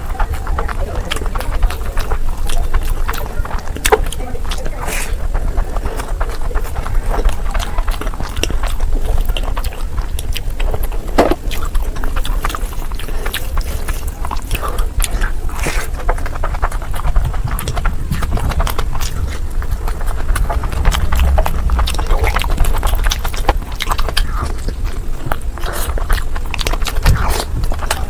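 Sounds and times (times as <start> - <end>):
person chewing food: 0.0 - 28.0
steady low hum: 0.0 - 28.0.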